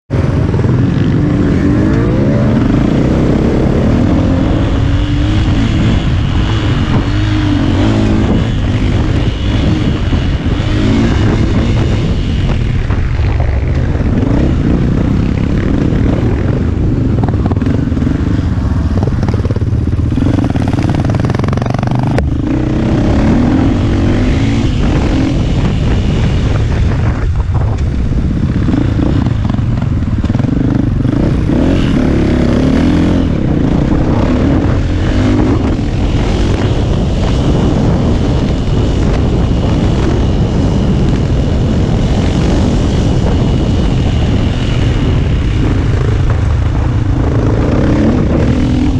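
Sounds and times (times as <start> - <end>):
motorcycle engine revving off-road: 0.1 - 48.9.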